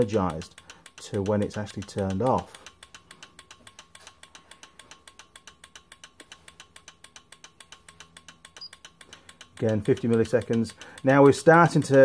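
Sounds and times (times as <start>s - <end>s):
relay clicking rapidly: 0.0s - 12.0s.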